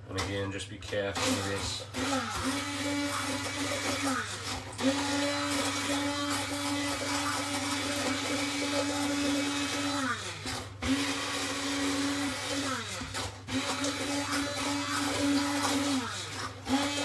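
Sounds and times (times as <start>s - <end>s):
hand blender motor whine: 1.2s - 17.0s.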